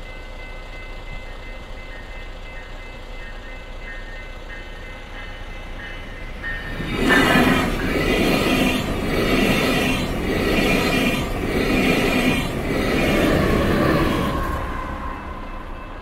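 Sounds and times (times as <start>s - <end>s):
train coaches rushing past: 0.0s - 16.0s.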